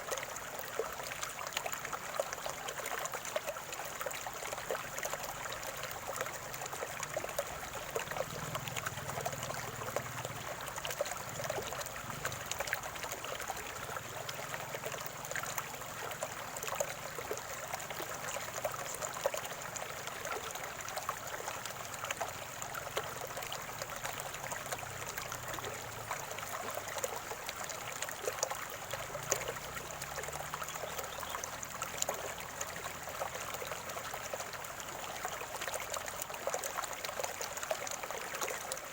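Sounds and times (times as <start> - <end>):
small water splashes: 0.0 - 38.9
stream gurgling and trickling: 0.0 - 38.9.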